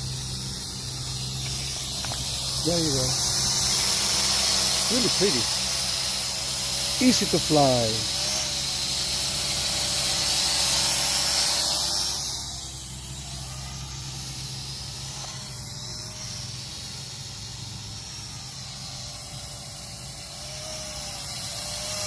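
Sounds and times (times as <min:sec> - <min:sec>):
faint drone hum: 0:00.0 - 0:22.0
wind hissing: 0:00.0 - 0:22.0.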